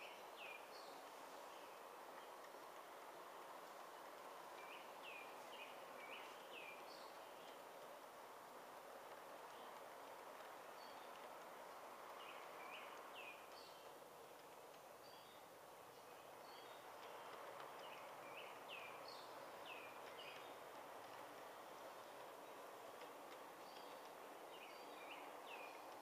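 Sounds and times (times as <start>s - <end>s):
faint steady background noise: 0.0s - 26.0s
songbird chirping: 0.0s - 26.0s.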